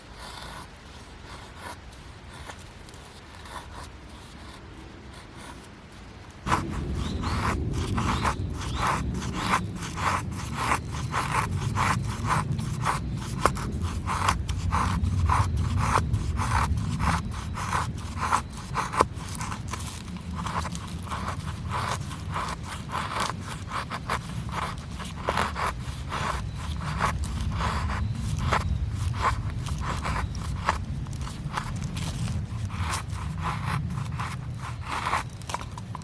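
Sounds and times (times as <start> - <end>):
rhythmic scraping strokes: 6.4 - 36.0.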